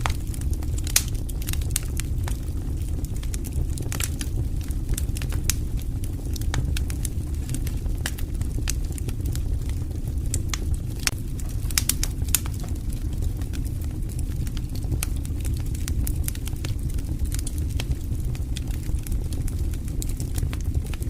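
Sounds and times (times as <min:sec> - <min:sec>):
low rumble of burning: 0:00.0 - 0:21.0
wood fire crackling and popping: 0:00.0 - 0:21.0.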